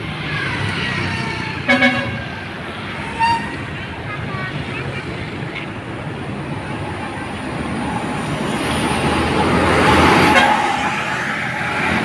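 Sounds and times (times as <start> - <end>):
traffic engine and road rumble: 0.0 - 12.0.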